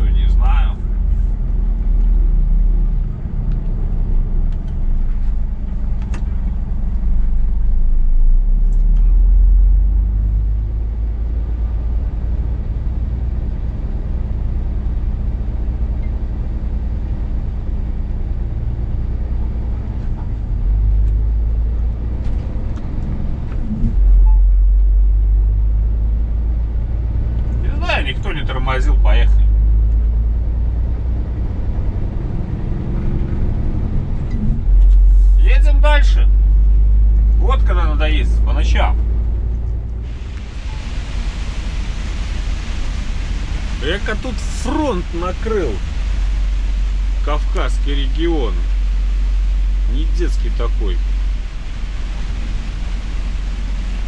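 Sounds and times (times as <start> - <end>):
truck engine drone in cab: 0.0 - 54.0.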